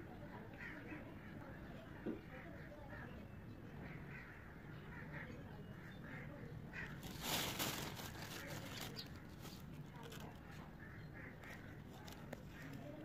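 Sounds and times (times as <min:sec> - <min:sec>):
birds calling: 0:00.6 - 0:13.0.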